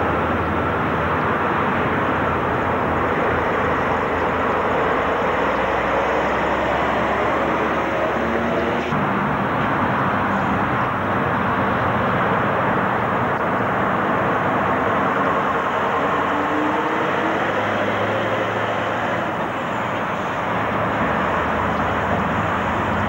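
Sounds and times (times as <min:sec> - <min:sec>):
diesel truck engines pulling away: 0:00.0 - 0:23.0.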